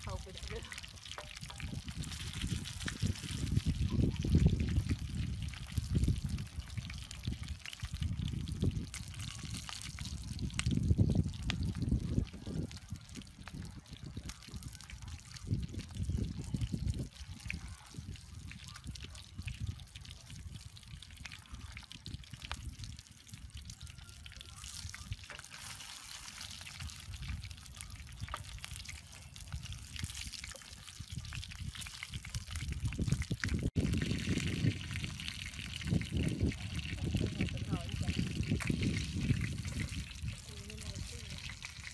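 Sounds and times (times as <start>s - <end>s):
fish sizzling in oil: 0.0s - 41.9s.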